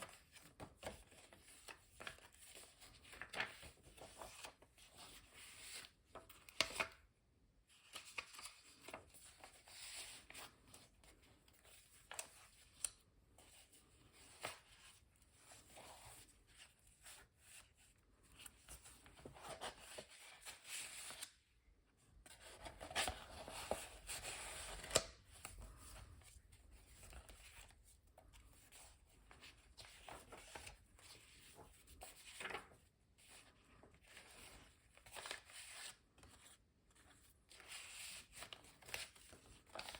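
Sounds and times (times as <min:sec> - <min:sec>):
paper rustling: 0:00.0 - 0:07.0, 0:07.7 - 0:21.4, 0:22.3 - 0:39.9.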